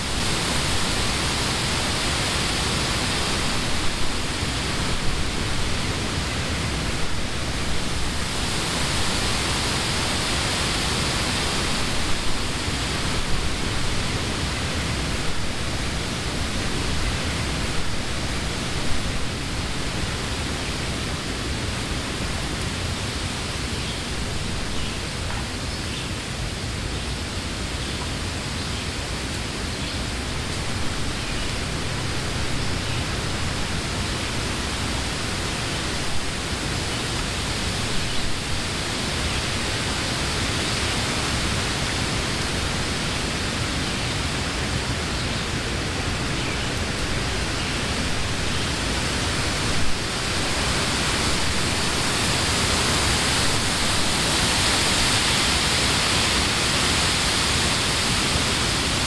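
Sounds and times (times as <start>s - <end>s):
wind rustling leafy trees: 0.0s - 59.0s.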